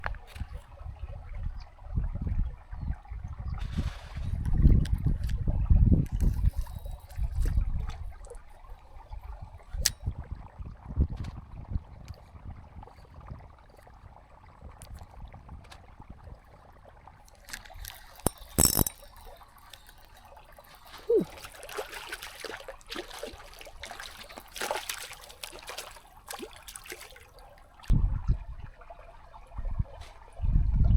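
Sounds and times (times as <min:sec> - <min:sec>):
water splashing and trickling: 0:00.0 - 0:30.9.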